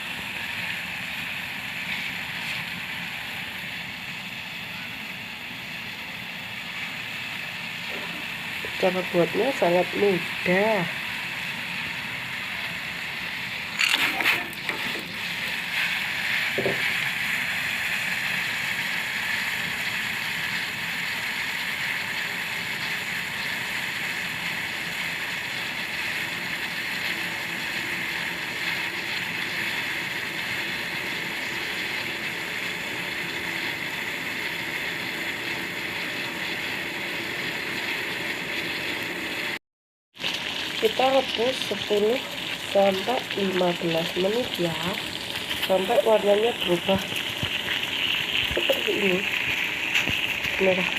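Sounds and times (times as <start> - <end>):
water boiling in a pot: 0.0 - 50.9.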